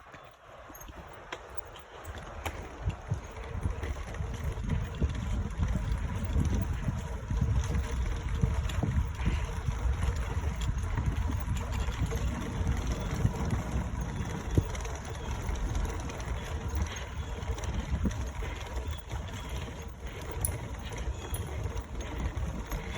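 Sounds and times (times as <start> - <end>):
bicycle knocking on wooden boards: 1.0 - 22.9
wind rumble on microphone: 2.0 - 22.9.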